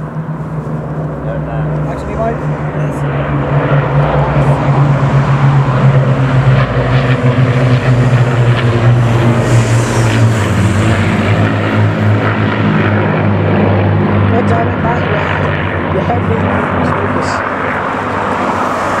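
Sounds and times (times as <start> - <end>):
deep drone of piston engines: 0.0 - 19.0.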